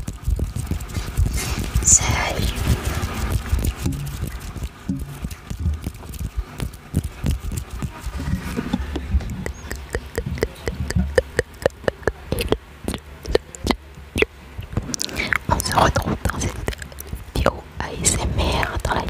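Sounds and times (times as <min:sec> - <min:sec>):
wet mouth clicks: 0:00.0 - 0:17.5.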